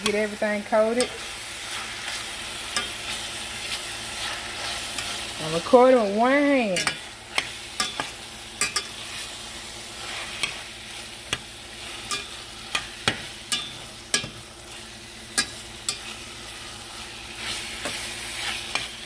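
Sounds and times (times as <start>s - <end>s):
meat sizzling in a pan: 0.0s - 19.0s
spatula scraping a pan: 0.9s - 19.0s.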